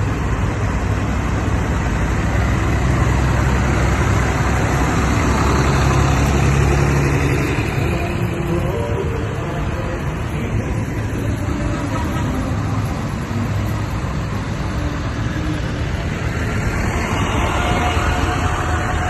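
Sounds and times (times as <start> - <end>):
tractor engine rumbling: 0.0 - 19.0.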